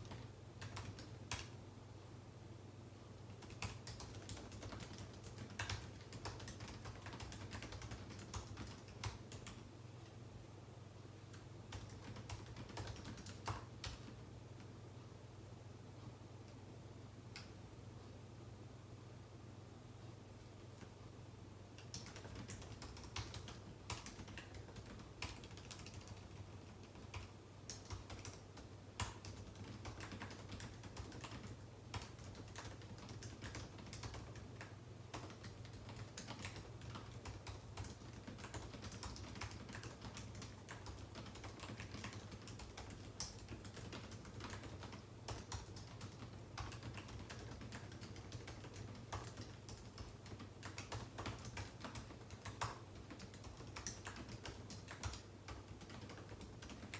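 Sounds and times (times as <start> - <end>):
typing on a keyboard: 0.0 - 1.6, 3.3 - 9.6, 11.3 - 14.2, 21.8 - 56.9.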